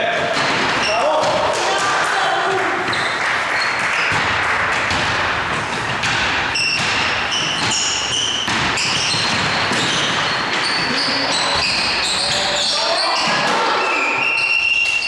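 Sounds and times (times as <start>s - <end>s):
sneakers squeaking: 0.1s - 1.8s, 2.4s - 15.0s
basketball bouncing on court: 0.2s - 13.7s.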